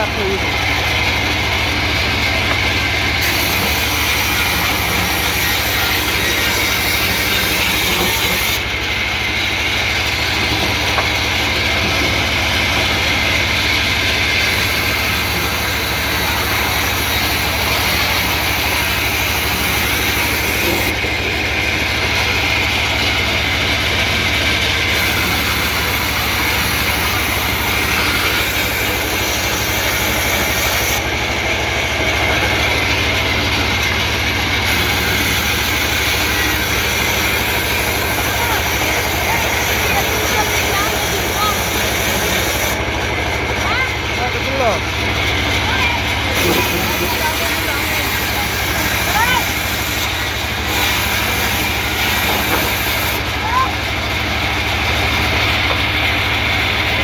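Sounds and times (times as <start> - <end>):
hissing saw noise: 0.0 - 57.0
low engine drone: 0.0 - 57.0.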